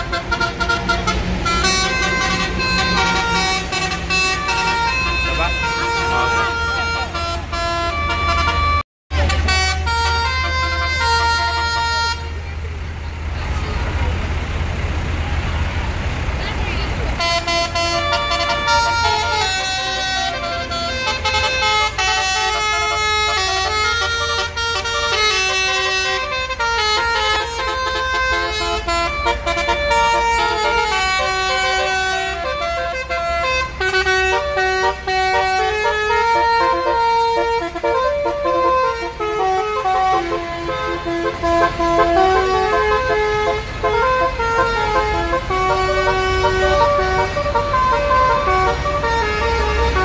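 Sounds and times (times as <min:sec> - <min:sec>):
multi-tone bus horns playing melody: 0:00.0 - 0:12.8, 0:17.1 - 0:50.0
bus engine running: 0:00.0 - 0:50.0.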